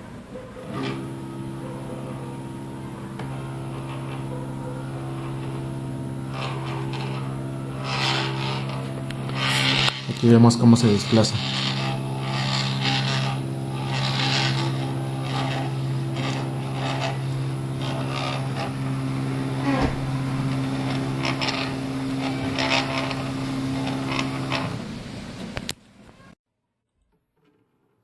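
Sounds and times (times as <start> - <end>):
stepper motors whining: 0.0 - 25.8.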